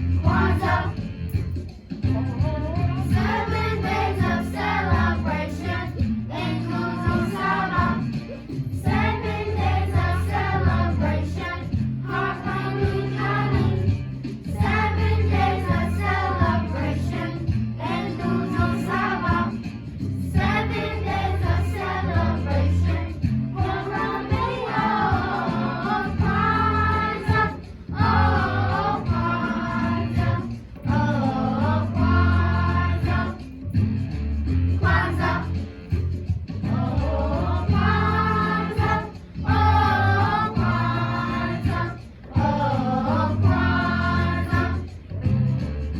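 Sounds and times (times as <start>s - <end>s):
children singing together: 0.0s - 1.0s, 3.0s - 19.8s, 20.4s - 33.5s, 34.8s - 35.6s, 36.6s - 44.9s
instrumental accompaniment with bass: 0.0s - 45.9s.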